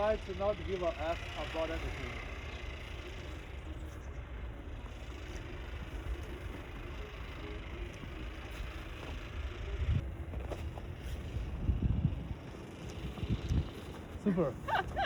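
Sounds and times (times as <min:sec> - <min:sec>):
faint vehicle traffic: 0:00.0 - 0:15.0
low street rumble: 0:00.0 - 0:15.0.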